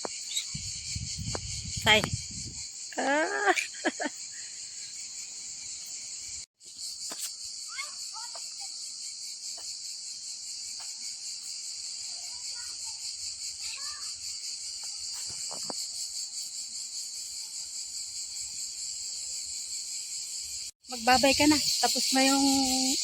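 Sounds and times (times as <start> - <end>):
night insects chorus: 0.0 - 23.0.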